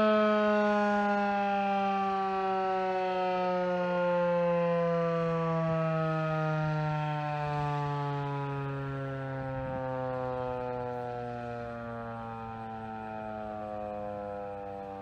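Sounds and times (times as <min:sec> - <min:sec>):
warning siren winding down: 0:00.0 - 0:15.0.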